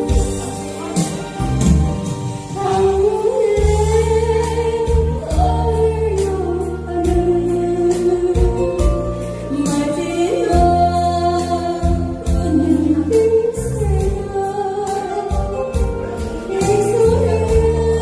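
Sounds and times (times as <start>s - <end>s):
backing track with bass and drums: 0.0s - 18.0s
woman singing into microphone: 0.0s - 18.0s.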